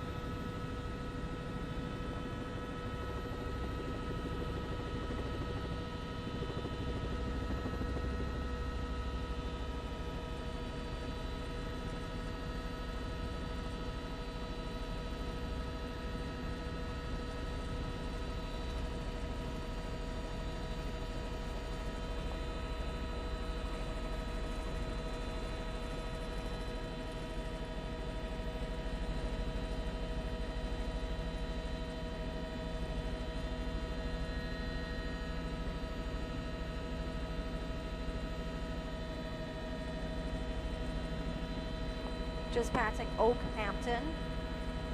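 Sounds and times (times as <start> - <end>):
helicopter engine and rotor hum: 0.0 - 44.9.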